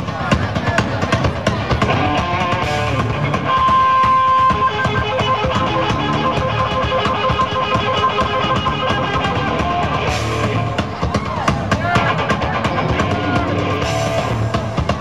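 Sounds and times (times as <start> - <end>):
drums: 0.0 - 15.0
blues band playing: 1.6 - 15.0
electric guitar: 1.7 - 15.0.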